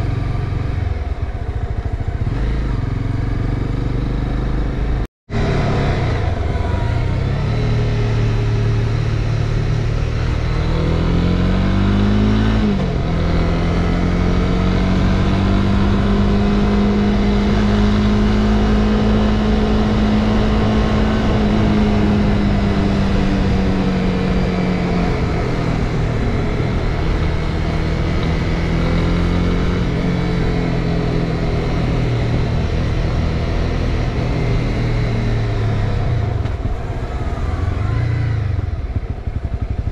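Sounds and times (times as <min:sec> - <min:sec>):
motorcycle engine riding: 0:00.0 - 0:39.9
wind and road noise: 0:00.0 - 0:39.9.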